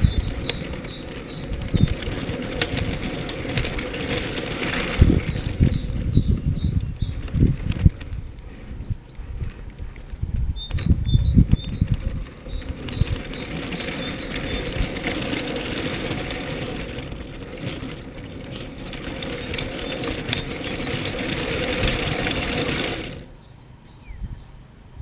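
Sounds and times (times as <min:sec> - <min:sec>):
toy train motor whirring: 0:00.0 - 0:09.0, 0:11.8 - 0:23.4.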